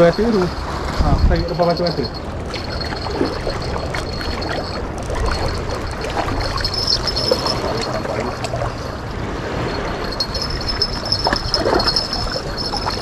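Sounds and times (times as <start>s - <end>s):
water lapping against rocks: 2.1s - 13.0s.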